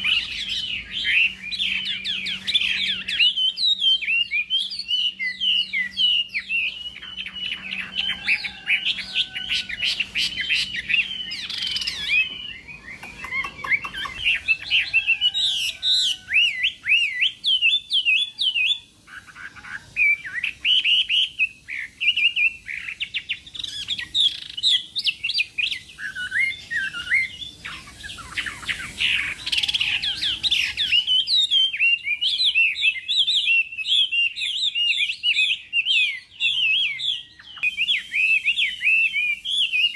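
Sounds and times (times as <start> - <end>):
songbird whistling and warbling: 0.0 - 39.9.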